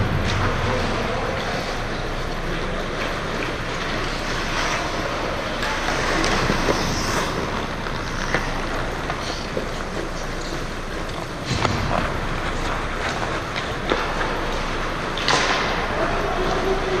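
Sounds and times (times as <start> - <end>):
skates scraping on ice: 0.2 - 17.0.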